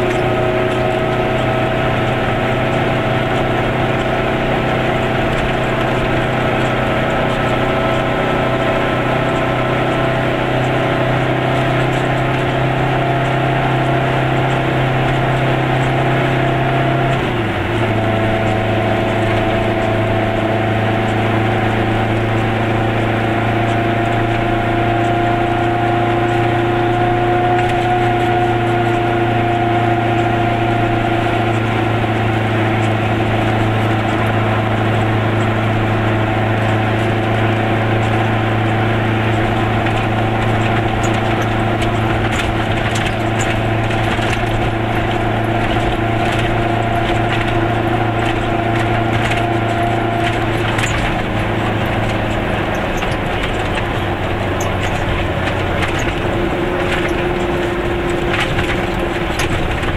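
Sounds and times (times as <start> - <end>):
two-stroke car engine running: 0.0 - 59.9.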